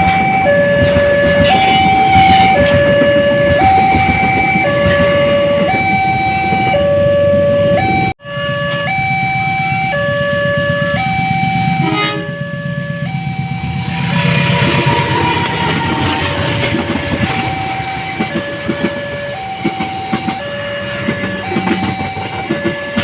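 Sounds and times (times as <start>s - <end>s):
level crossing two-tone alarm: 0.0s - 14.2s, 16.7s - 23.0s.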